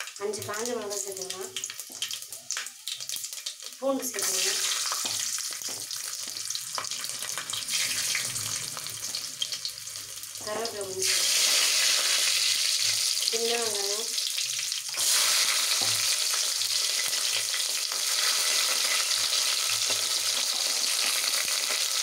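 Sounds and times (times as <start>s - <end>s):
hot oil sizzling: 0.0s - 22.0s.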